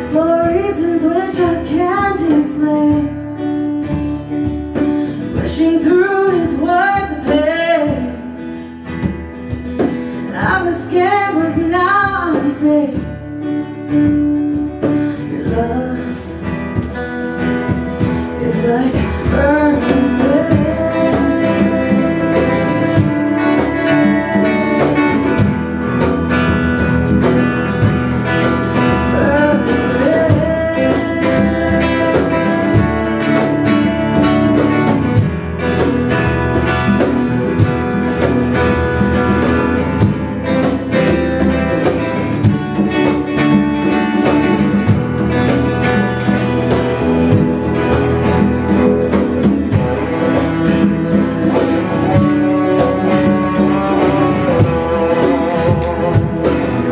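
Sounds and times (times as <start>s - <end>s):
strummed guitar: 0.0s - 56.9s
percussive beat: 0.2s - 56.9s.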